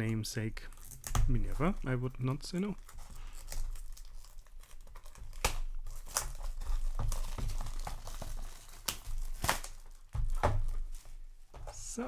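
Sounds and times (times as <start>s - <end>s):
packaging crinkling and rustling: 0.0s - 11.9s.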